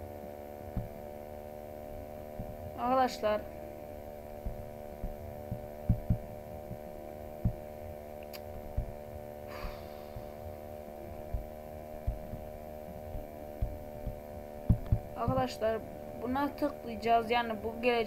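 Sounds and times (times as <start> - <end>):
electrical hum: 0.0 - 18.0
soft low thumps: 0.6 - 16.5.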